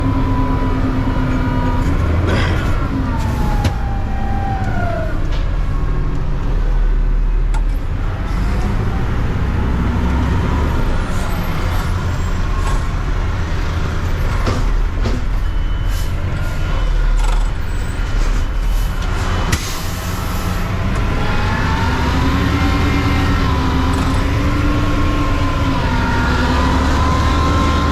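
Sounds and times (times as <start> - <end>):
truck engine rumble: 0.0 - 27.9.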